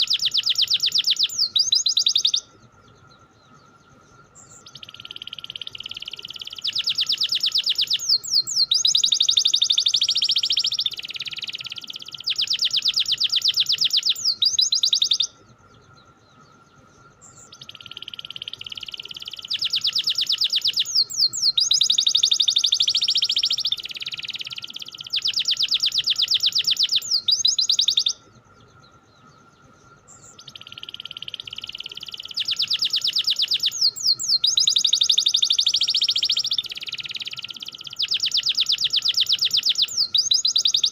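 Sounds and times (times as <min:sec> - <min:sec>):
canary singing trills: 0:00.0 - 0:40.9
faint steady hum: 0:00.0 - 0:40.9.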